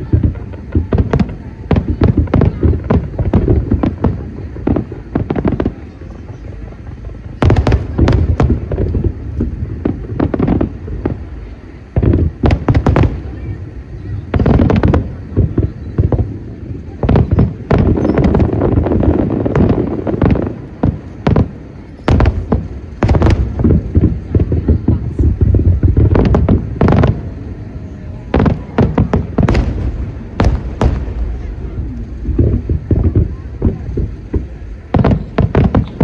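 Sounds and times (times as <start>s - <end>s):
continuous low rumble: 0.0s - 36.0s
fireworks bangs: 0.0s - 36.0s.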